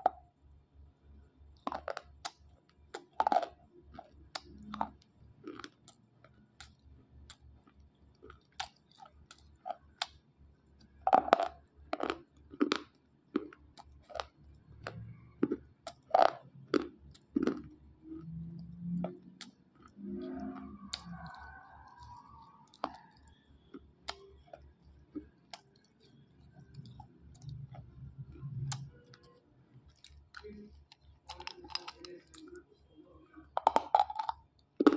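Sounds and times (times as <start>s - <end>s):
crunching chewing: 1.6s - 10.2s, 10.8s - 34.9s.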